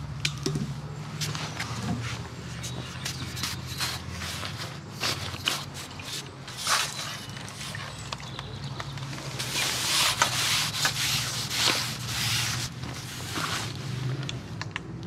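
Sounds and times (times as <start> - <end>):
fishing tackle rubbing and scraping: 1.2 - 14.0.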